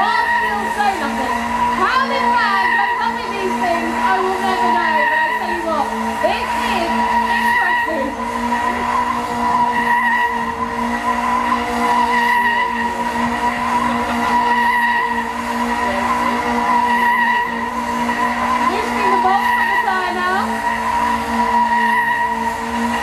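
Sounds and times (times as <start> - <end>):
car engine at high revs: 0.0 - 23.0.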